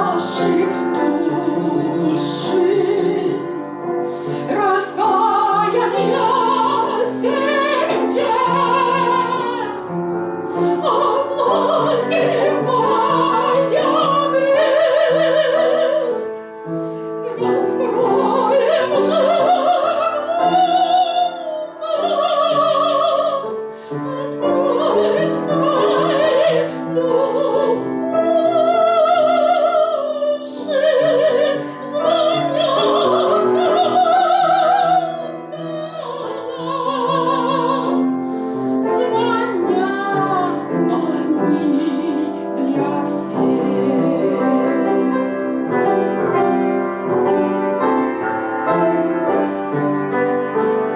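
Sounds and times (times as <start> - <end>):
woman singing operatic style: 0.0 - 16.3, 17.2 - 38.2, 38.8 - 45.3
piano accompaniment: 0.0 - 50.9.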